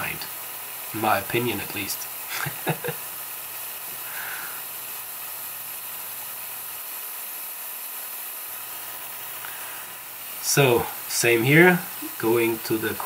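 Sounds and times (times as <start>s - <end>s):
coolant mist nozzle hissing: 0.0s - 13.0s.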